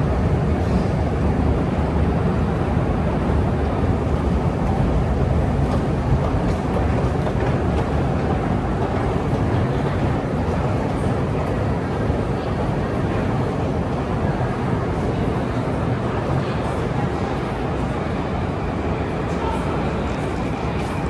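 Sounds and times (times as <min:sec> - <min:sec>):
escalators running: 0:00.0 - 0:21.0
trains in tunnels: 0:00.0 - 0:21.0.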